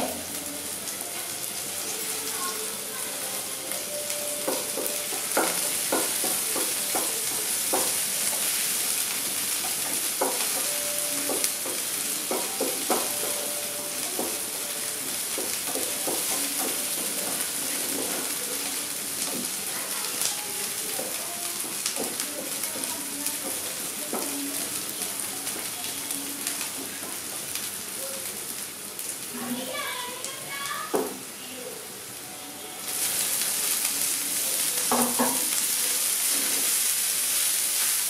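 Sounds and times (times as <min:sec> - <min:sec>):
onions sizzling in hot oil: 0:00.0 - 0:38.0.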